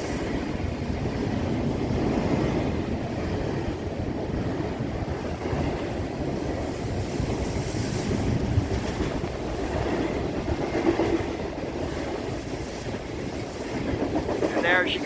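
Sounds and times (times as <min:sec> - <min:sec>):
freight train cars rolling past: 0:00.0 - 0:15.0.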